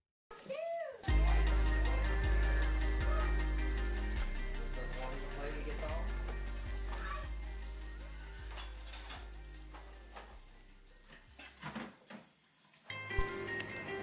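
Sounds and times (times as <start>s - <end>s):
faucet water running into sink: 0.3s - 14.0s
soft background music: 1.1s - 11.7s, 12.8s - 14.0s.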